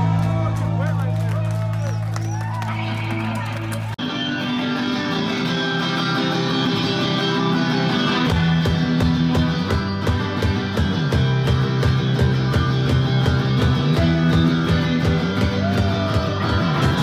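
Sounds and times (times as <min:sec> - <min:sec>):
bass guitar: 0:00.0 - 0:17.0.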